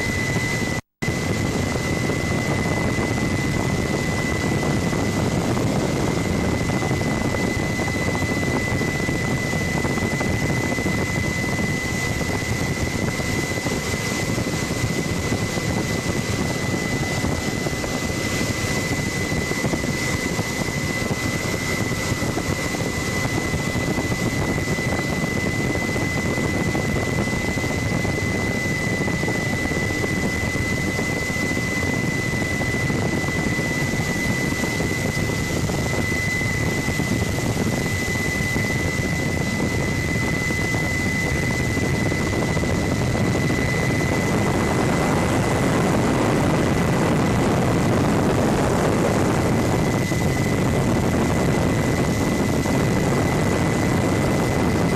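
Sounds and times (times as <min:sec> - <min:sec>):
helicopter rotor and engine noise: 0:00.0 - 0:54.9
high-pitched whine: 0:00.0 - 0:54.9.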